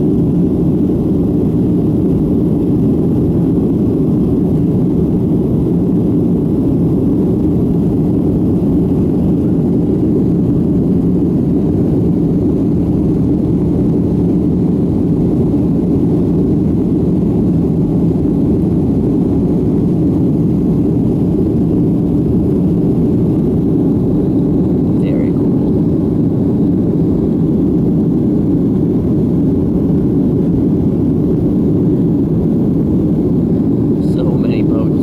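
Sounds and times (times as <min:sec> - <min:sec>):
airliner cabin engine and airflow noise: 0:00.0 - 0:35.0.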